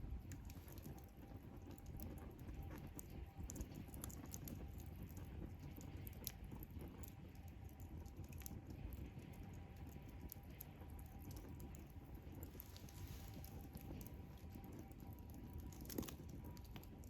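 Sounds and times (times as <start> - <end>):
campfire pops and snaps: 0.0 - 17.0
low rumble of burning fire: 0.0 - 17.0.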